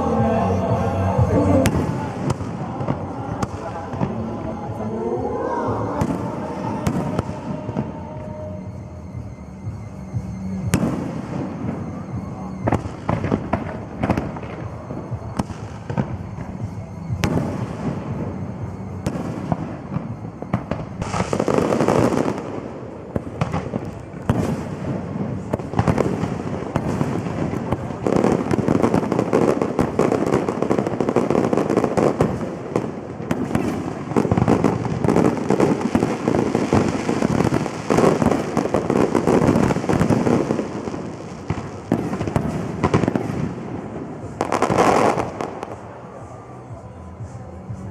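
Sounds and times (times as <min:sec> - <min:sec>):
fireworks bangs and crackle: 0:00.0 - 0:47.9.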